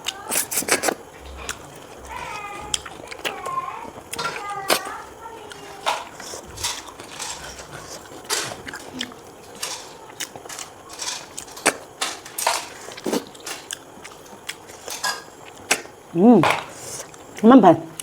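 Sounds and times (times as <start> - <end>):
sharp eating smacks and clicks: 0.0 - 17.4
person eating: 0.0 - 18.0.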